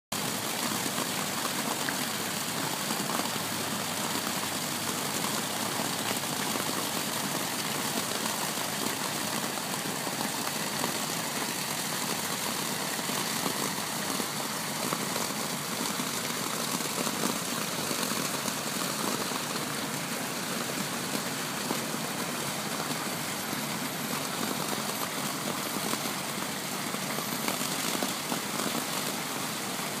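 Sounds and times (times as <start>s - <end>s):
fountain water splashing: 0.1s - 30.0s.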